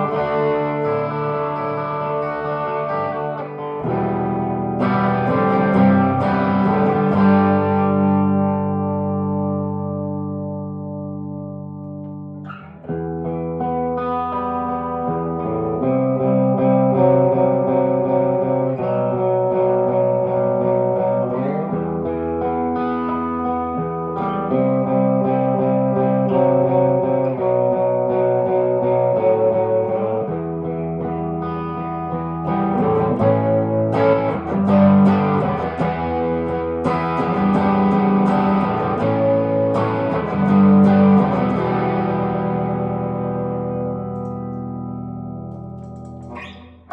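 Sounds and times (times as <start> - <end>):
electric guitar chords: 0.0 - 46.9.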